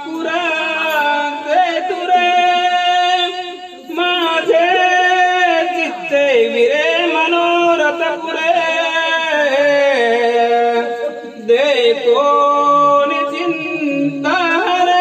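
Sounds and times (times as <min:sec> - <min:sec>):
man singing chant-like melody: 0:00.0 - 0:15.0.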